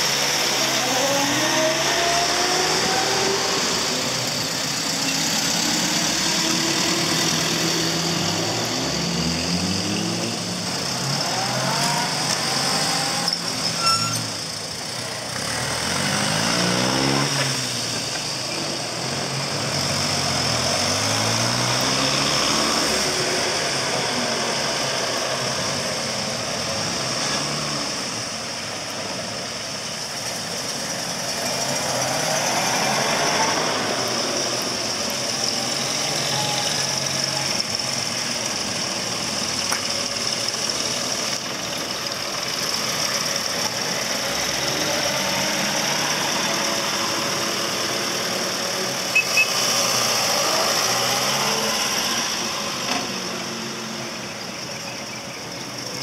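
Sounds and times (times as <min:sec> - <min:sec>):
car engines passing: 0:00.0 - 0:56.0.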